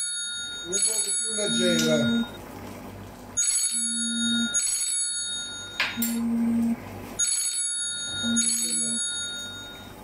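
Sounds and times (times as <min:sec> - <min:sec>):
electronic phone ringtone: 0:00.0 - 0:02.4, 0:03.4 - 0:10.0.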